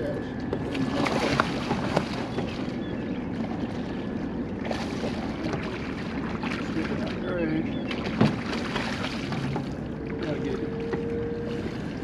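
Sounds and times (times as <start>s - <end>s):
fish splashing in water: 0.7s - 12.0s.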